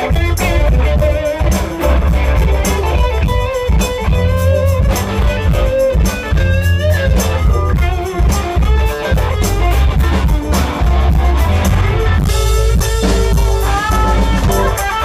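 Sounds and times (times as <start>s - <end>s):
electric guitar lead: 0.0s - 15.0s
live rock band playing: 0.0s - 15.0s.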